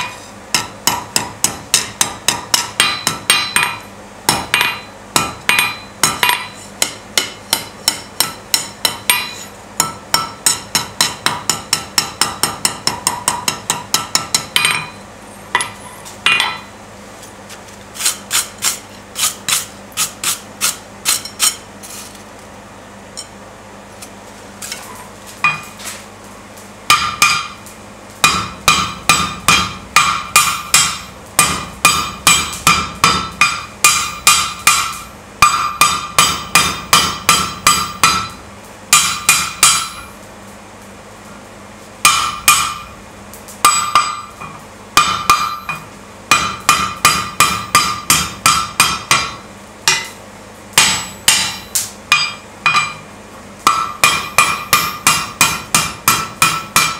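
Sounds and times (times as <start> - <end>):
hammer striking hot steel: 0.0 - 16.8, 24.7 - 26.0, 26.8 - 40.2, 42.0 - 56.9.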